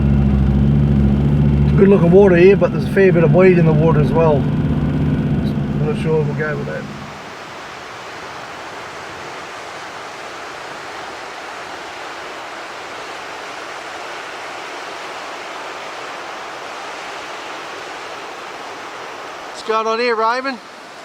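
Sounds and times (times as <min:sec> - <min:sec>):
ocean surf hissing: 0:00.0 - 0:21.0.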